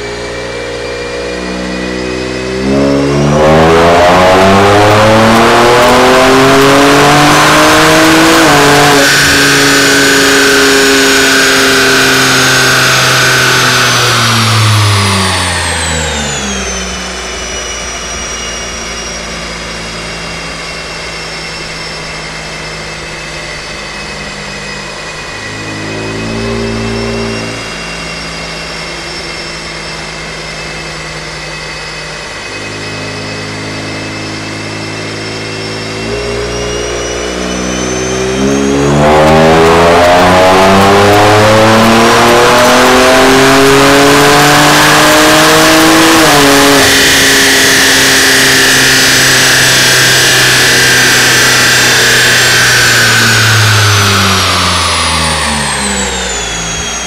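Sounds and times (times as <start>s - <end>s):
car engine revving on dyno: 0.0s - 57.0s
high whine: 0.0s - 57.0s.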